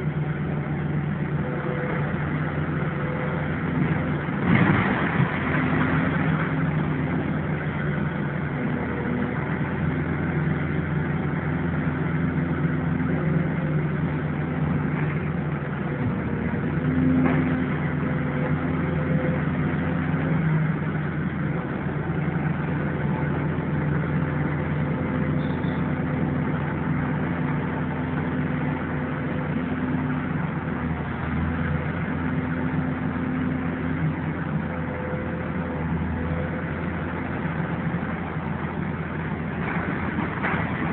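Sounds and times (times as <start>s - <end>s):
demolition machine engine running: 0.0s - 40.9s.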